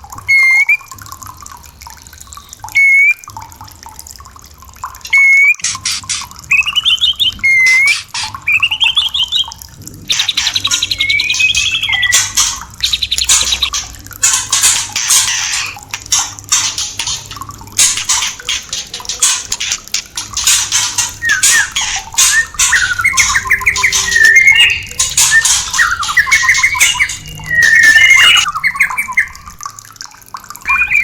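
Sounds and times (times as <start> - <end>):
trickling water: 0.0 - 31.0
bird whistling and chattering song: 0.2 - 0.9, 2.4 - 3.2, 5.0 - 17.2, 17.8 - 29.6, 30.6 - 31.0.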